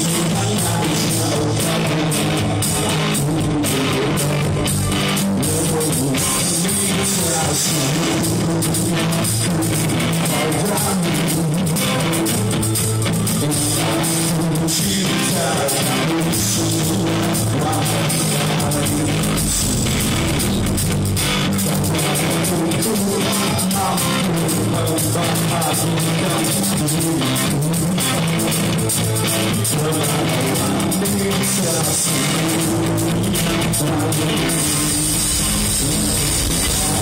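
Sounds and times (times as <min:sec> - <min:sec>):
drum kit: 0:00.0 - 0:37.0
electric guitar: 0:00.0 - 0:37.0.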